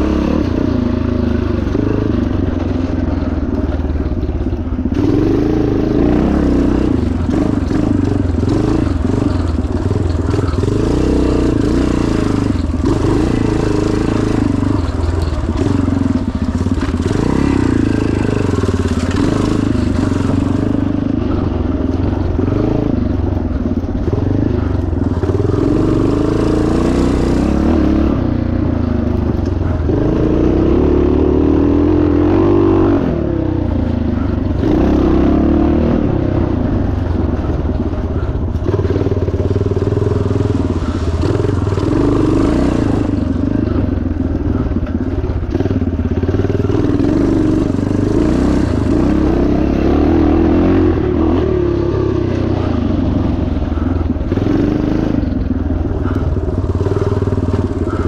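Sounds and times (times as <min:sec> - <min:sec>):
motorcycle engine revving under load: 0:00.0 - 0:58.0.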